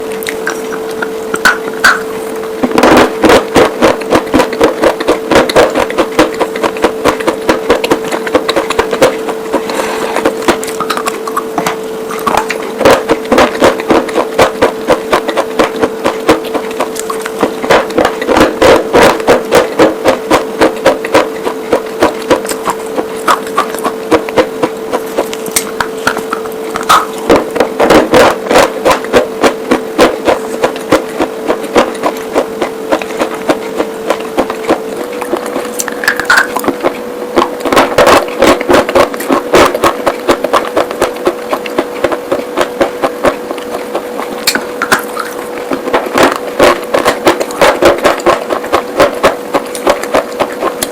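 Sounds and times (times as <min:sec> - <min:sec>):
steady hum: 0:00.0 - 0:50.9
chalk being bitten and chewed: 0:02.7 - 0:11.5, 0:12.1 - 0:50.9.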